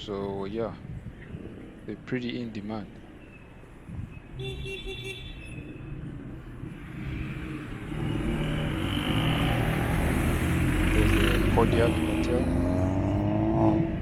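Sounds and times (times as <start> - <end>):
car engine and tyre noise: 0.0 - 14.0.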